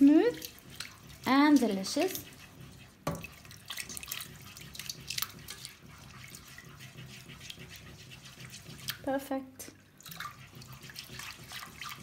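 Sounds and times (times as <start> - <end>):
whisk stirring bubbling sauce: 0.0 - 12.0.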